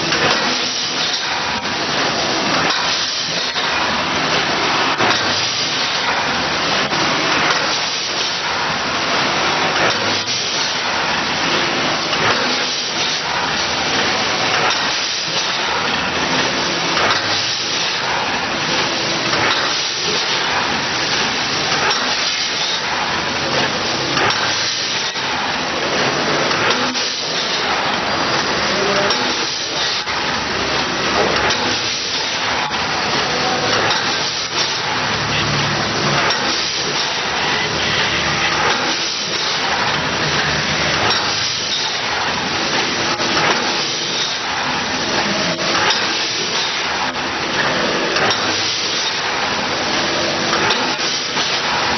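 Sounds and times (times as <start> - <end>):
packaging machine hissing: 0.0 - 51.9.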